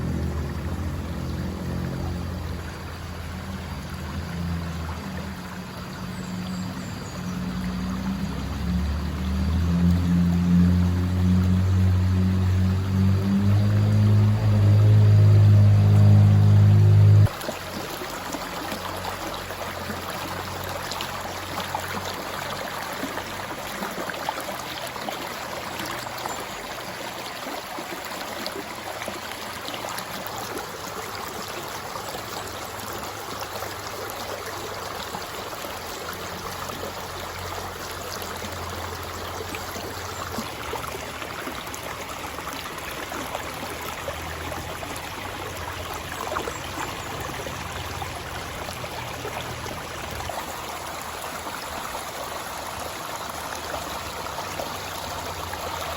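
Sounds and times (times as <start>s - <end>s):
river water rushing over rocks: 0.0s - 55.9s
small water splashes: 0.0s - 55.9s.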